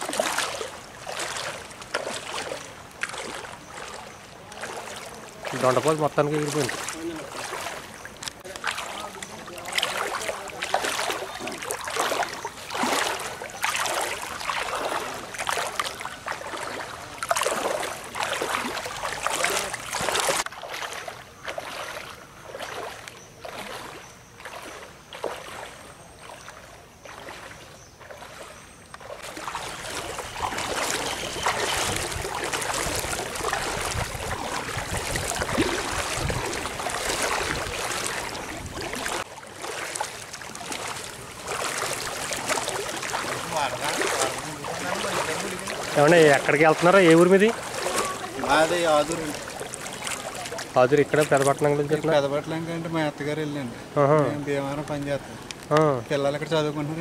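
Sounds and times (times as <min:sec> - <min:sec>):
floodwater splashing: 0:00.0 - 0:57.0.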